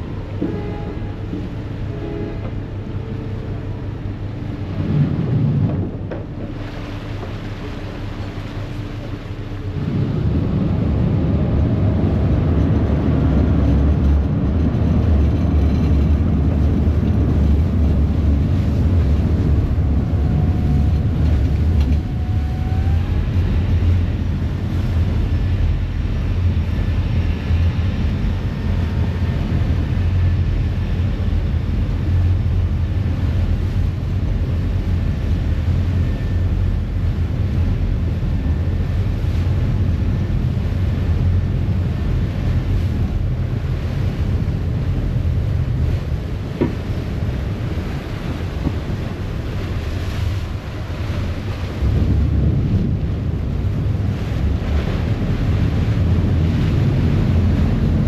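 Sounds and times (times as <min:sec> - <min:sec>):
ferry engine rumble: 0:00.0 - 0:58.0
water churning in propeller wash: 0:00.0 - 0:58.0.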